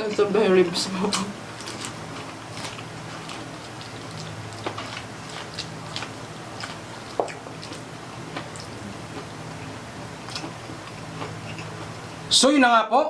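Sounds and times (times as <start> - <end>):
chewing and mouth smacks: 1.1 - 12.2.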